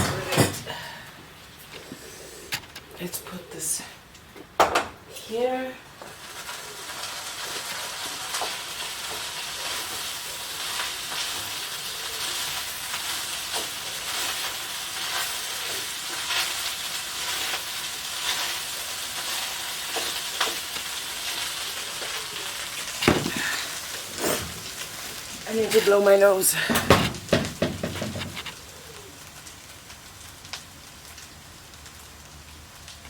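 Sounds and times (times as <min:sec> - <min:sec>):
small crackles: 0:03.9 - 0:33.0
food sizzling in a pan: 0:05.4 - 0:27.0, 0:27.8 - 0:33.0.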